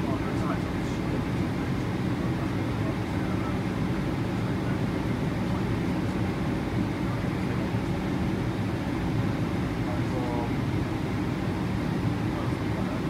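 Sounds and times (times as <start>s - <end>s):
aircraft cabin engine drone: 0.0s - 13.0s.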